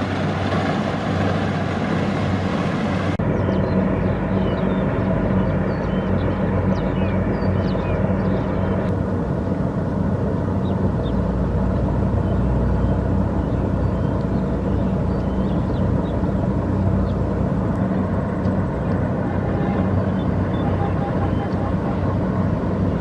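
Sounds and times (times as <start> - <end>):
combine harvester engine humming: 0.0 - 23.0.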